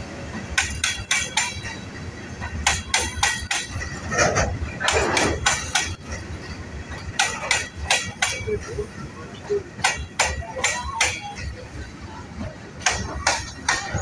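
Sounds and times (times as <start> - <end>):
low train rumble: 0.0 - 14.0
train wheels clacking over rail joints: 0.0 - 14.0.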